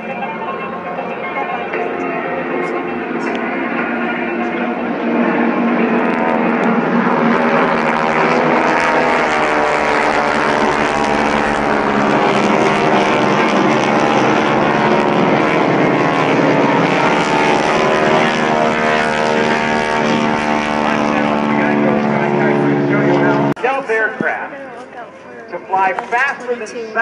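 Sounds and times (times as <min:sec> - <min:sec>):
propeller airplanes droning: 0:00.0 - 0:27.0.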